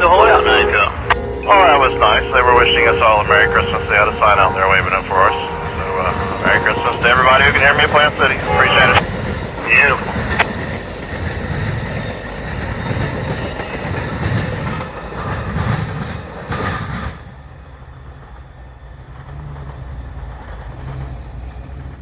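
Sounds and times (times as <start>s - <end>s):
low train rumble: 0.0s - 22.0s
train wheels clickety-clack: 2.2s - 22.0s.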